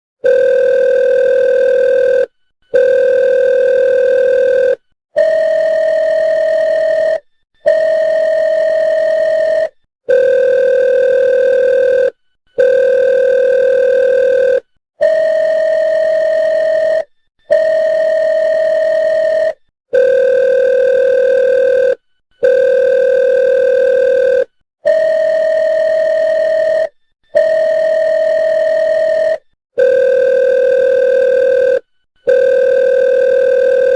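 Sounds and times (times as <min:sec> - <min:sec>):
electronic phone ringtone: 0:00.2 - 0:33.9.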